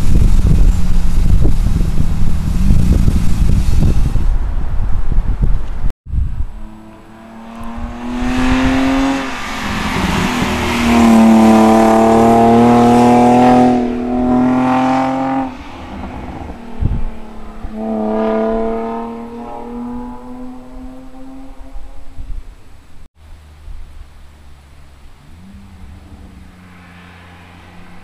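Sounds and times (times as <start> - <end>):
car engine accelerating: 0.0 - 22.4, 23.3 - 28.0.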